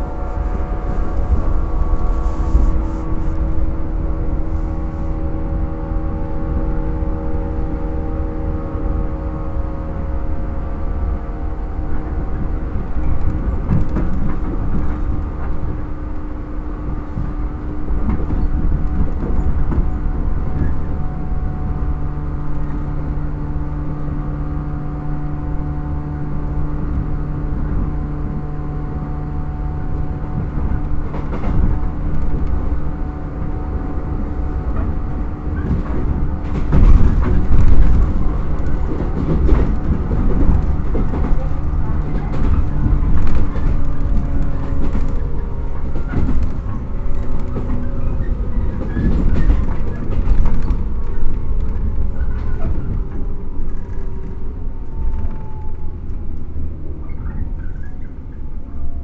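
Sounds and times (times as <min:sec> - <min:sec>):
train traction motor hum: 0:00.0 - 0:59.0
wheels rumbling on rail: 0:00.0 - 0:59.0.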